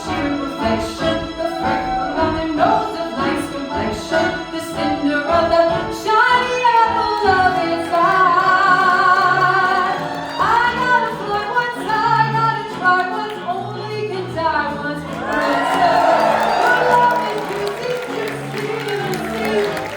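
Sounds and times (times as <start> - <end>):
show music accompaniment: 0.0 - 19.9.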